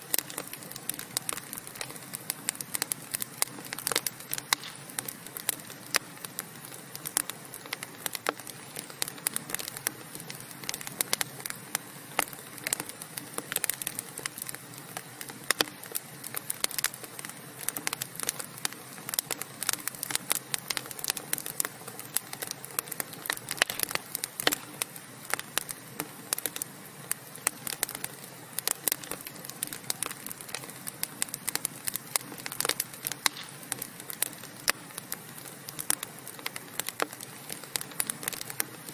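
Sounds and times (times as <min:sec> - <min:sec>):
burning wood crackling: 0:00.0 - 0:38.9.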